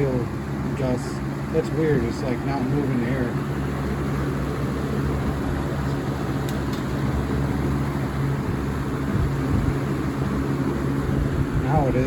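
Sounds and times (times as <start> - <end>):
air rushing from fan blades: 0.0 - 12.0
box fan motor hum: 0.0 - 12.0.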